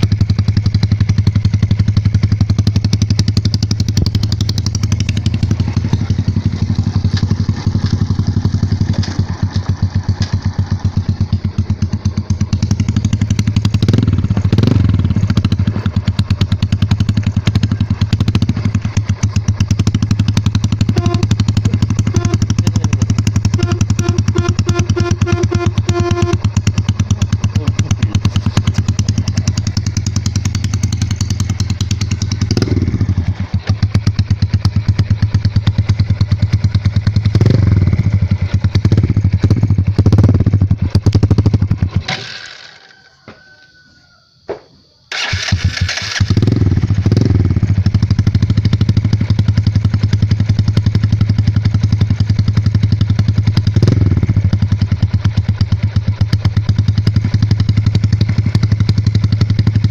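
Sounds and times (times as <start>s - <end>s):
motorcycle engine revving: 0.0s - 43.6s, 45.1s - 59.9s.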